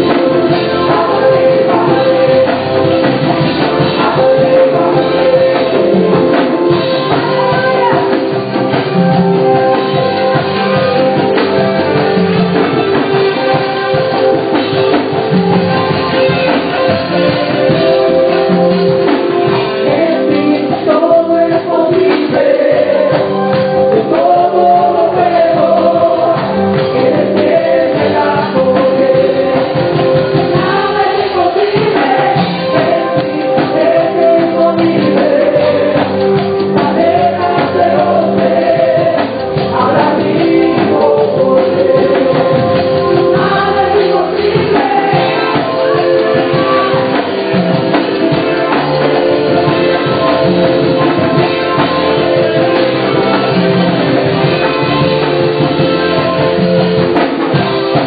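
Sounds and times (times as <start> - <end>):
group singing gospel music: 0.0 - 58.0
live band playing: 0.0 - 58.0.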